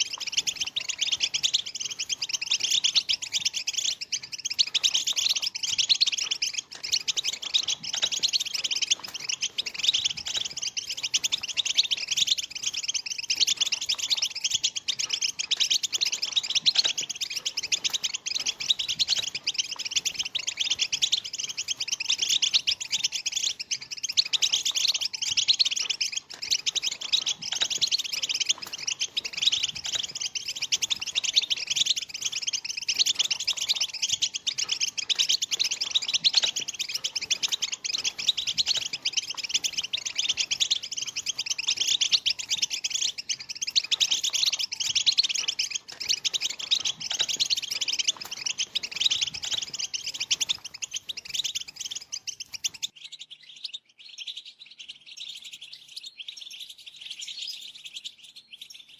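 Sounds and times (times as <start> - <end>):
flock of finches twittering: 0.0 - 58.9.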